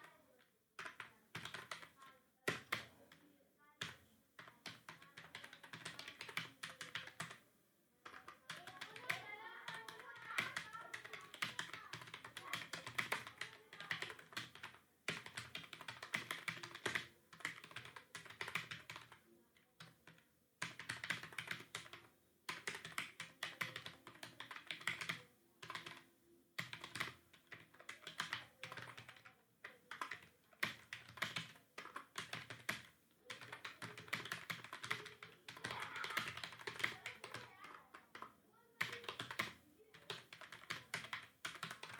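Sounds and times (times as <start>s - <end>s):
fast typing on keyboard: 0.8s - 3.0s, 3.8s - 7.4s, 8.0s - 19.2s, 19.8s - 41.9s.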